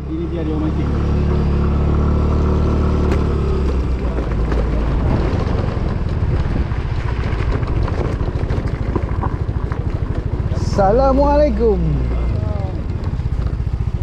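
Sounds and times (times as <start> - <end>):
scooter engine pulling away: 0.0 - 14.0.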